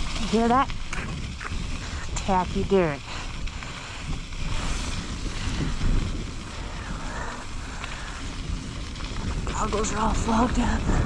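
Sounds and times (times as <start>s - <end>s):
bike tyres rolling over wet dirt: 0.0s - 11.0s
wind rushing over microphone: 0.0s - 11.0s.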